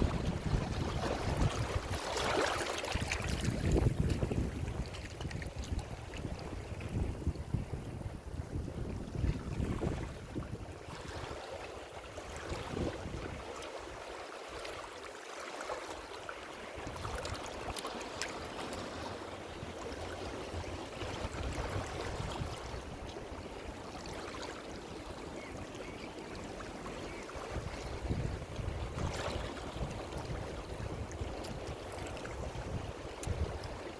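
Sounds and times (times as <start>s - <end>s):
ocean waves washing on shore: 0.0s - 33.9s.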